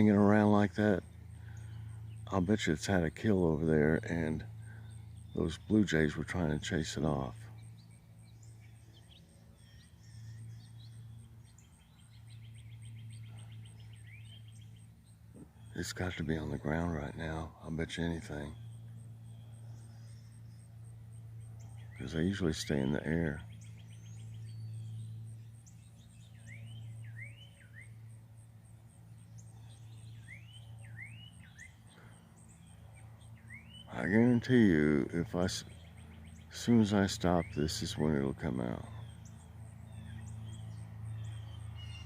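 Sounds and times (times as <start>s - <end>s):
high pulsing chirp: 0.0s - 42.0s
low steady hum: 0.0s - 42.0s
songbirds chirping: 0.0s - 42.0s.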